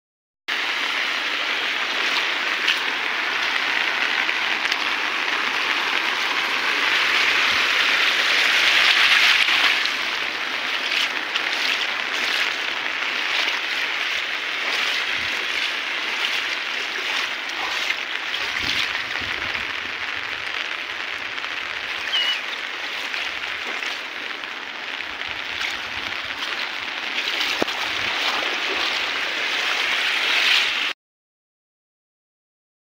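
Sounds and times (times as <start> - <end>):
rainwater rushing and splashing: 0.5 - 31.0.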